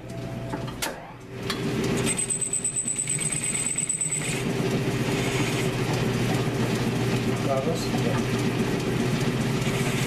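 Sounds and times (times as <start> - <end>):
lathe motor humming: 1.4 - 10.0.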